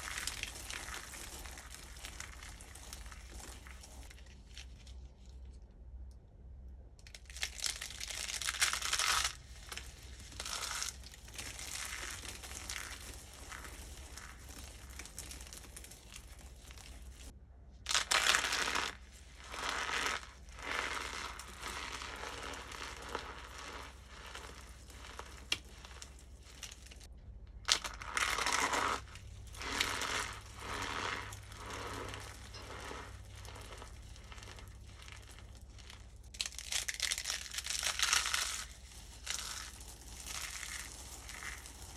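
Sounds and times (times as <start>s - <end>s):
dry soap crunching and crumbling: 0.0s - 5.6s, 7.0s - 17.3s, 17.9s - 41.9s.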